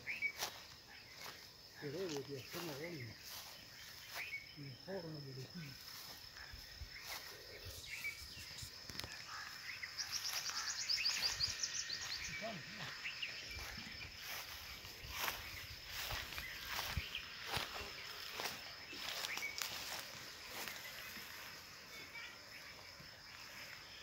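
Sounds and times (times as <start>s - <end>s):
footsteps on dirt path: 0.0s - 4.5s, 5.7s - 22.0s
bird calls: 0.0s - 24.0s
high insect buzz: 0.0s - 24.0s.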